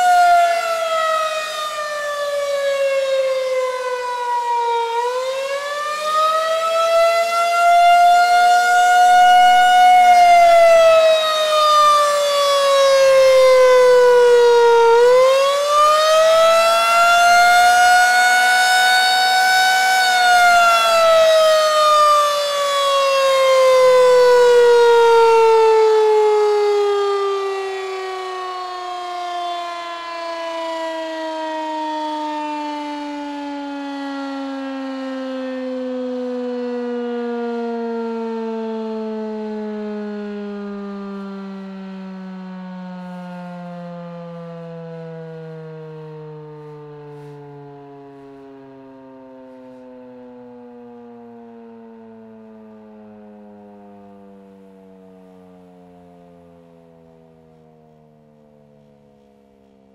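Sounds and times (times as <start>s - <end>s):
rotating tornado siren: 0.0s - 59.9s.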